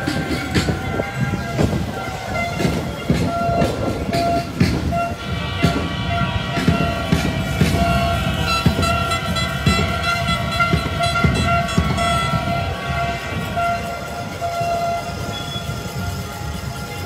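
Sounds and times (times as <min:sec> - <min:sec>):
low rumble: 0:00.0 - 0:14.5
horns blowing short blasts: 0:00.0 - 0:17.0.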